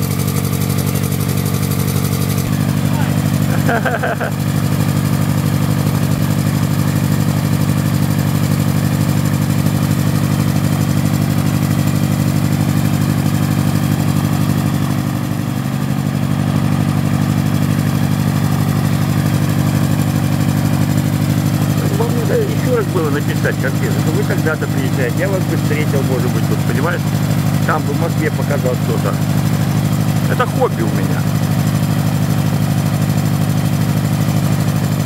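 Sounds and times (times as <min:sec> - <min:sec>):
autogyro engine running: 0:00.0 - 0:35.0.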